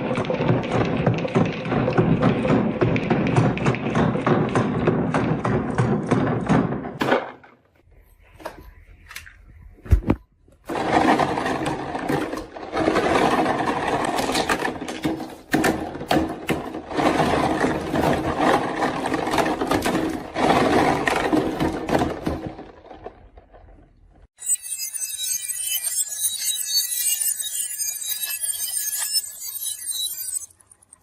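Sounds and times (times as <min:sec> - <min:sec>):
marbles rolling down wooden run: 0:00.0 - 0:06.8, 0:10.7 - 0:23.8, 0:25.2 - 0:31.0.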